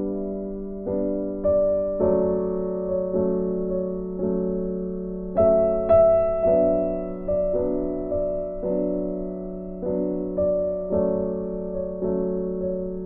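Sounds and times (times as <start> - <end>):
soft piano melody: 0.0 - 13.0.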